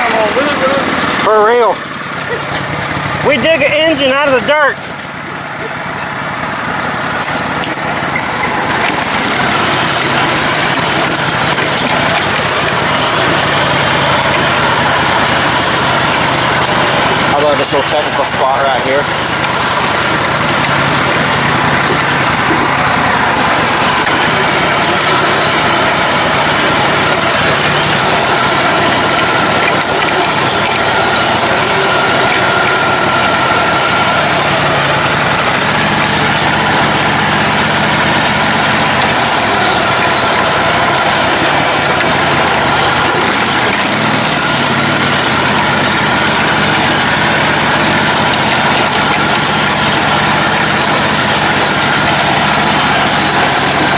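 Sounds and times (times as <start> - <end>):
riding lawn mower engine running: 0.0 - 53.9.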